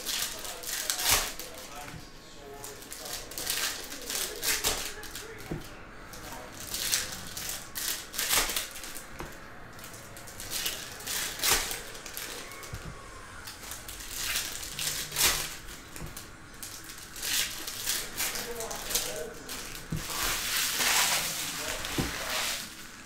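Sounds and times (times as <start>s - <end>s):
foil wrappers crinkling and tearing: 0.0s - 23.0s.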